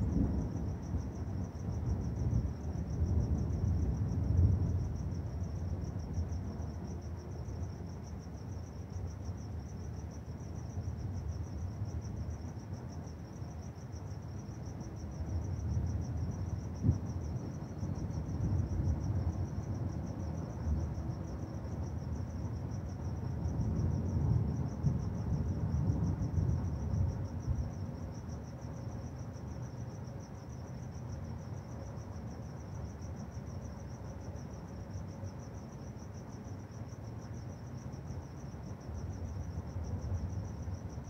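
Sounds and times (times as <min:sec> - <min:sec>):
cricket chirping: 0:00.0 - 0:41.0.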